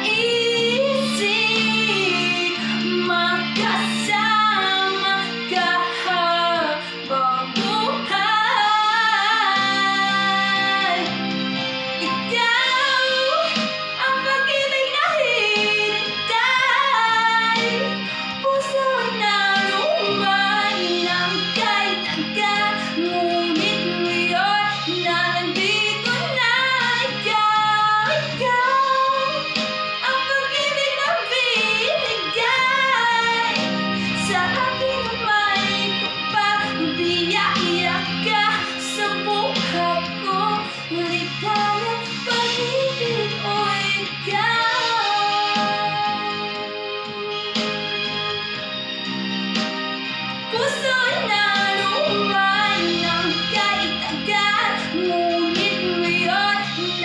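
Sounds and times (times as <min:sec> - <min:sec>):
backing track of sustained chords: 0:00.0 - 0:57.0.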